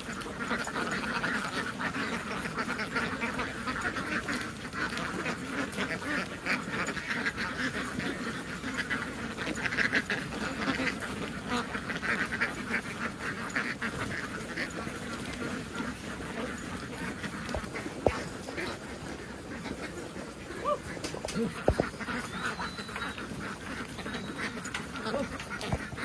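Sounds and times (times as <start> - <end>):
flock of ducks quacking: 0.0 - 26.0.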